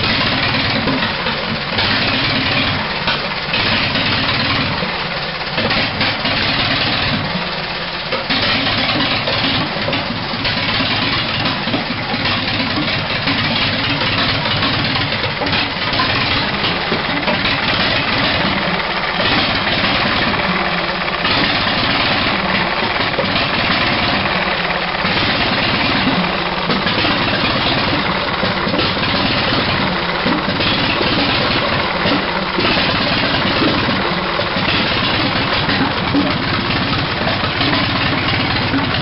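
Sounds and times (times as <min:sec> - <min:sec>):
stationary engine running: 0:00.0 - 0:39.0.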